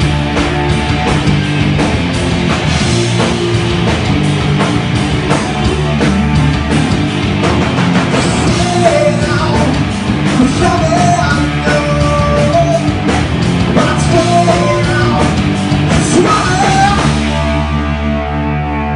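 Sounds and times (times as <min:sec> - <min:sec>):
drums pounding: 0:00.0 - 0:18.3
distorted electric guitars: 0:00.0 - 0:18.9.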